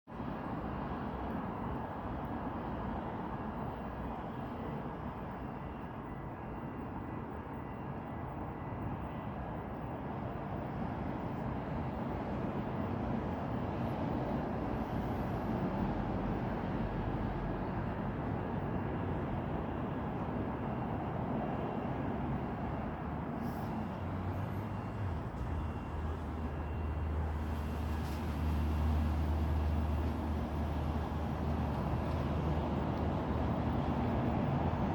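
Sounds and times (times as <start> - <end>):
street and vehicle noise: 0.0 - 34.9
heavy engine low rumble: 0.1 - 34.9
faint fire alarm tone: 1.5 - 12.9, 14.6 - 32.8.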